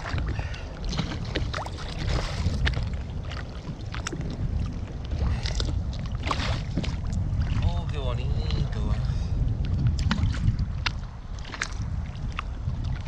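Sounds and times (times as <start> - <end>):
water slapping against boat hull: 0.0 - 13.0
wind rumbling on microphone: 0.0 - 13.0.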